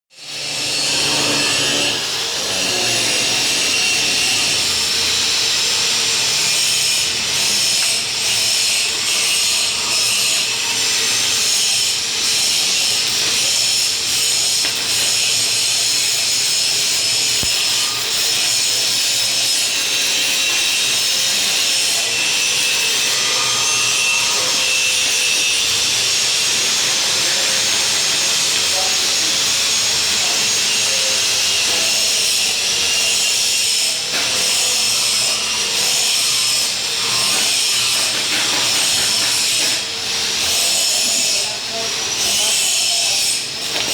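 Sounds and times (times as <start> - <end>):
welding arc crackling: 0.2 - 41.4.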